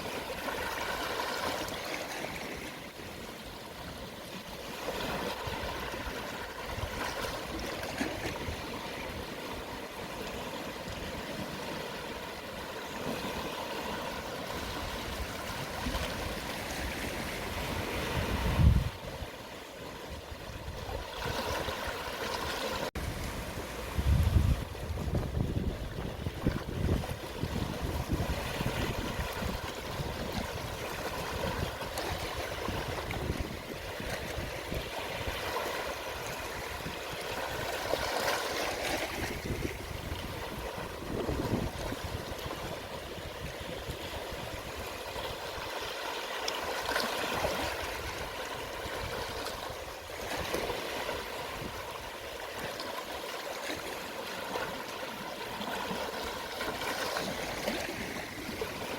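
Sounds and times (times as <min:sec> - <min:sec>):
small waves washing on shore: 0:00.0 - 0:58.9.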